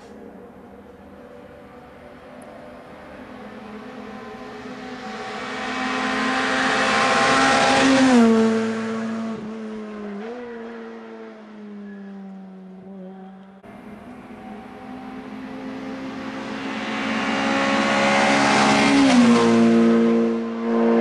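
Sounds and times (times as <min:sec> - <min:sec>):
rally car engine passing by: 0:02.1 - 0:21.0.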